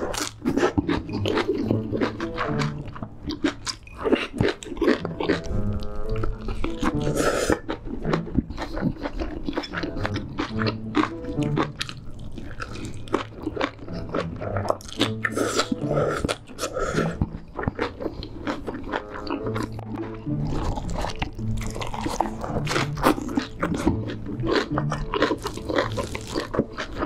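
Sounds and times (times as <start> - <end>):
noodles slurped: 0.0 - 27.0
soft background music: 0.0 - 27.0
wet chewing and smacking: 0.0 - 27.0.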